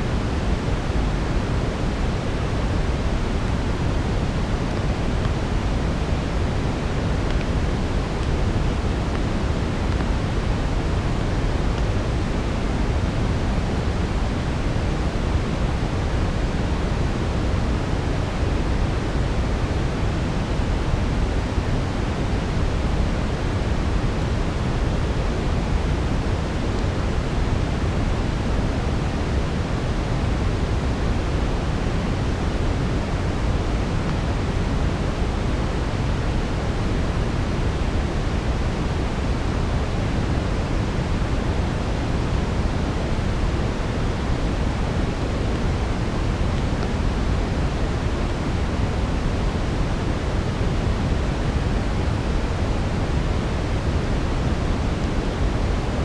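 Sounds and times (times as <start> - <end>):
deep brown noise hiss: 0.0 - 56.0.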